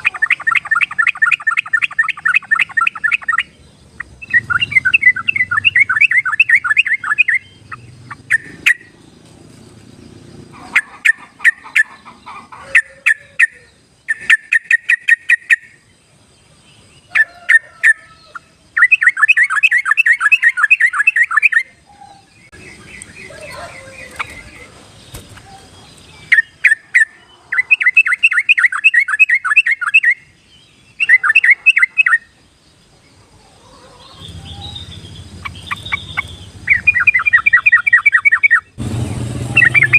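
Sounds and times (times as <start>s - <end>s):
bulbul song: 0.0s - 32.8s, 33.5s - 39.9s.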